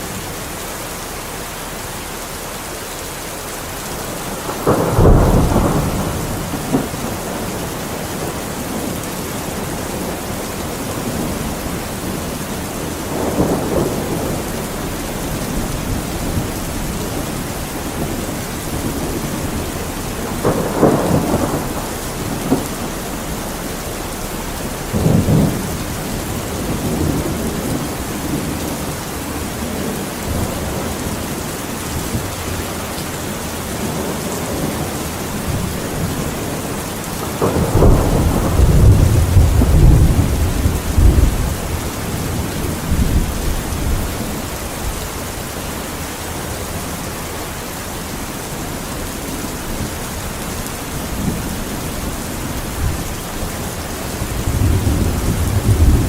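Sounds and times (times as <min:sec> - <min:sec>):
steady rainfall: 0:00.0 - 0:56.0
rolling thunder: 0:03.9 - 0:45.4, 0:48.6 - 0:56.0.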